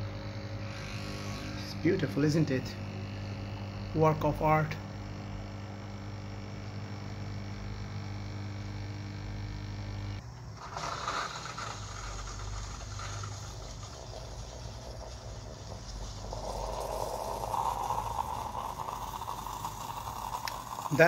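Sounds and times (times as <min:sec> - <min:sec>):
coffee machine hissing: 0:00.0 - 0:21.0
coffee machine pump humming: 0:00.0 - 0:21.0.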